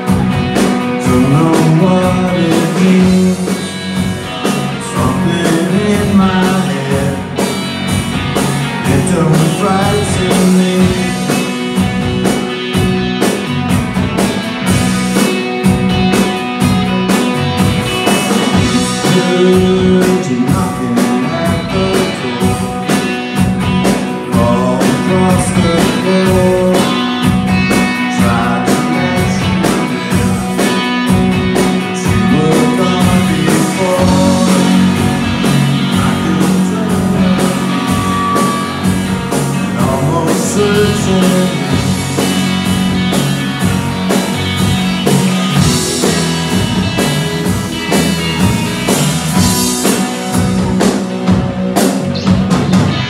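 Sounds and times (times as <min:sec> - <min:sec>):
bass: 0:00.0 - 0:53.0
drums: 0:00.0 - 0:53.0
electric guitars: 0:00.0 - 0:53.0
keyboard: 0:00.0 - 0:53.0.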